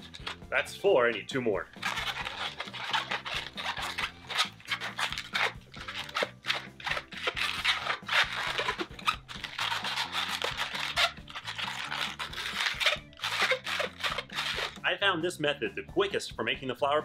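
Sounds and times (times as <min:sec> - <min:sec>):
balloon squeaking and rubbing: 0:00.0 - 0:14.9
soft background music: 0:00.0 - 0:17.0.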